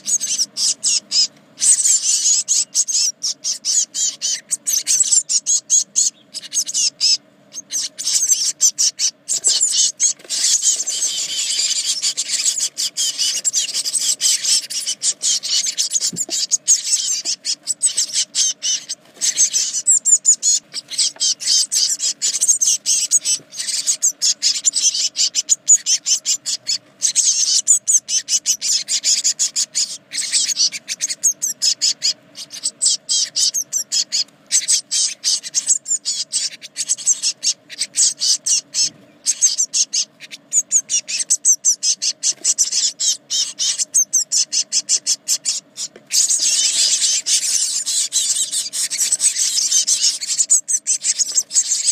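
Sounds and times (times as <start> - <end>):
faint steady hum: 0.0 - 51.9
nestlings begging chatter: 0.0 - 51.9.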